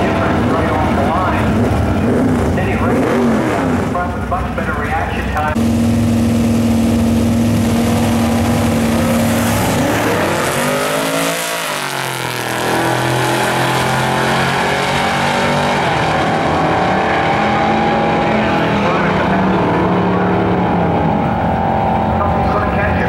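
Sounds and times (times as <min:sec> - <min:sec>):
drag racing cars at full throttle: 0:00.0 - 0:23.0.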